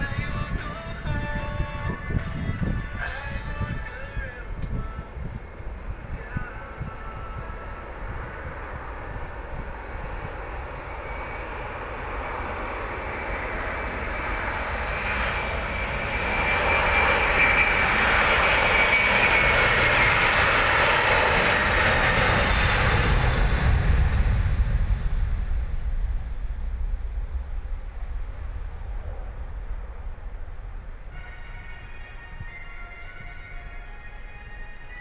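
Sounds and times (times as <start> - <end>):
deep airplane rumble: 0.0 - 35.0
jet engine whine: 0.0 - 35.0.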